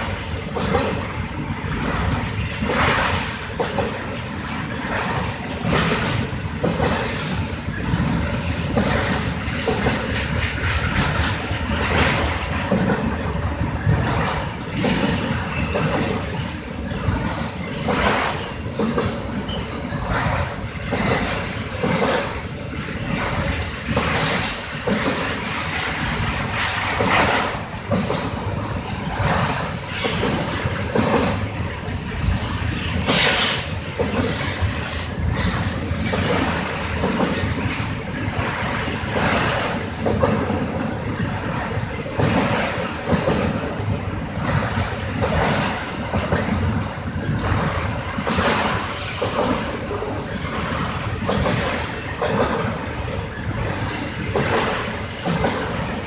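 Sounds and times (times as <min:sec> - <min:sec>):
train wheels rumbling on rail: 0:00.0 - 0:56.0
wheel clacks over rail joints: 0:00.0 - 0:56.0.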